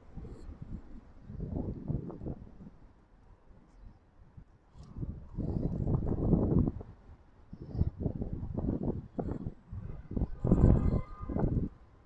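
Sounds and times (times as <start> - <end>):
wind buffeting microphone: 0.0 - 2.9, 4.3 - 12.0.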